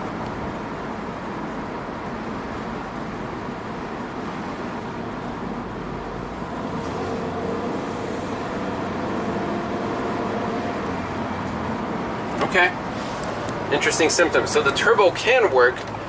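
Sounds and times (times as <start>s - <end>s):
van engine and road noise: 0.0s - 16.0s.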